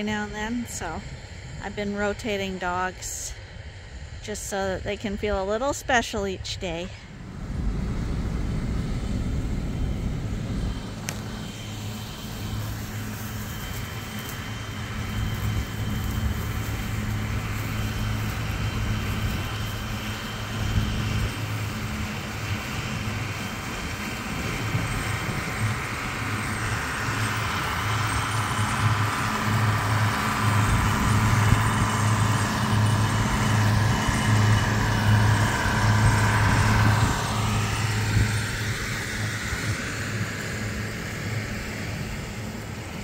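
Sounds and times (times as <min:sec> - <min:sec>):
car engine and tyres rumbling: 0:06.6 - 0:43.0.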